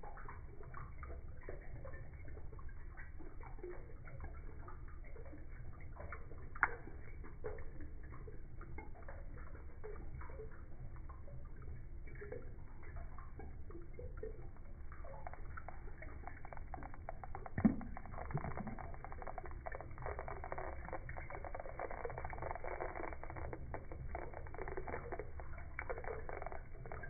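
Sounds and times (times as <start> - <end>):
low hum: 0.0 - 27.0
water ticks and crackles: 0.0 - 27.0.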